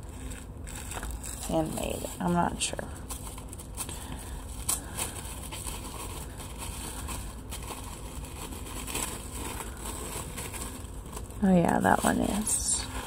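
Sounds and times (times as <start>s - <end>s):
low steady hum: 0.0s - 13.0s
paper and packaging rustling: 0.0s - 13.0s.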